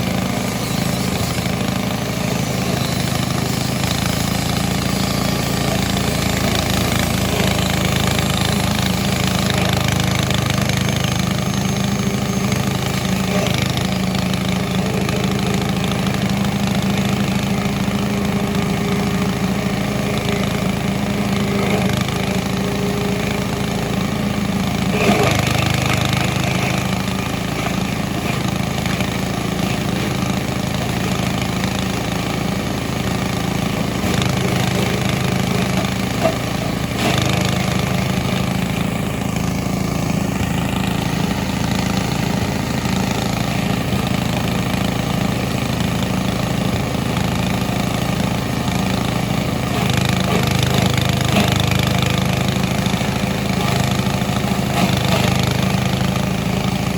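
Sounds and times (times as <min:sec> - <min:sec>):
machine engine running: 0:00.0 - 0:56.9.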